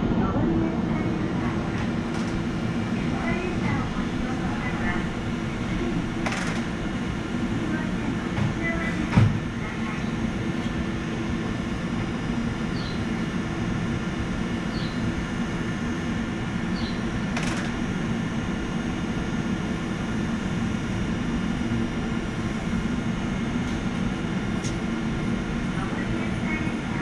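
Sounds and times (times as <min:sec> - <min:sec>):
train equipment humming: 0:00.0 - 0:27.0.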